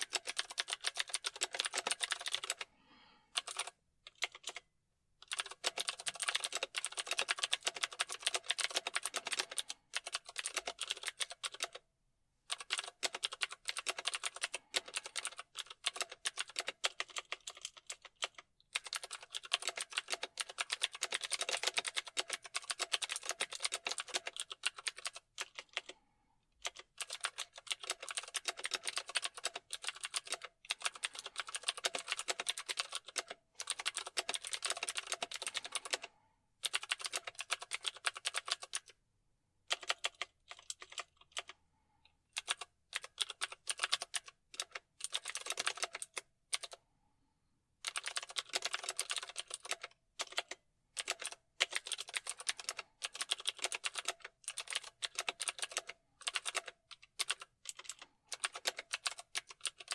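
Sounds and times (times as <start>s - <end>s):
typing on computer keyboard: 0.0s - 2.7s, 3.3s - 11.8s, 12.5s - 26.0s, 26.6s - 39.0s, 39.7s - 41.6s, 42.3s - 46.8s, 47.8s - 59.9s.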